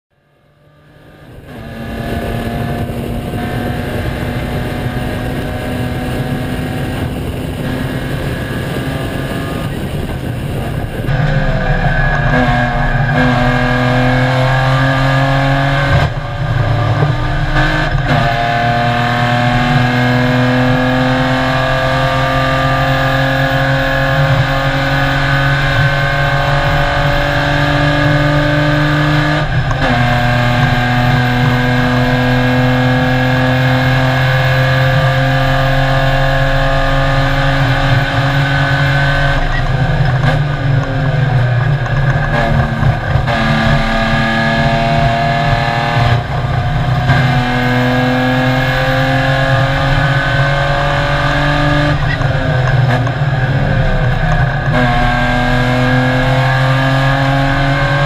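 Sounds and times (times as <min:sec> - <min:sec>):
race car engine accelerating: 0:00.3 - 0:58.0.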